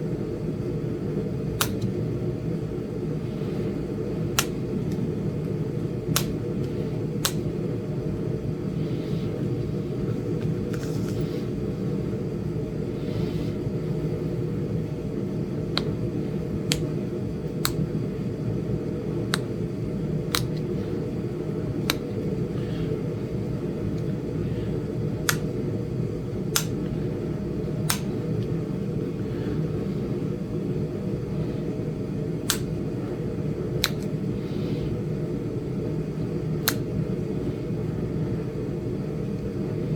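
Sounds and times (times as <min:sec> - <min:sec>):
heater humming: 0:00.0 - 0:39.9.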